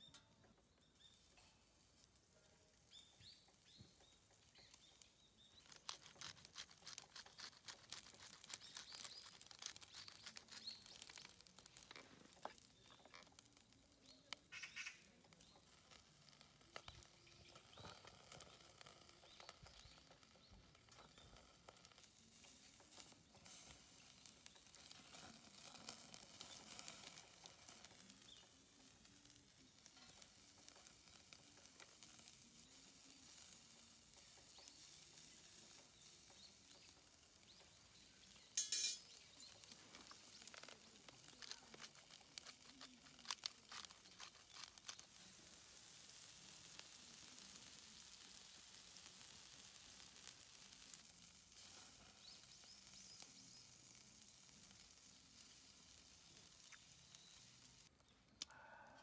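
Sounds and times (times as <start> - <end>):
meat sizzling on a grill: 0.8 - 58.8.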